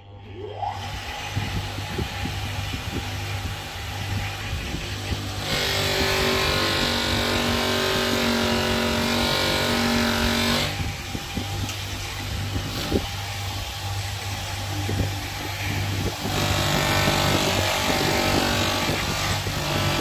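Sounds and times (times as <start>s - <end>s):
blade on grinder wheel whine: 0.0s - 20.0s
grinder motor hum: 0.0s - 20.0s.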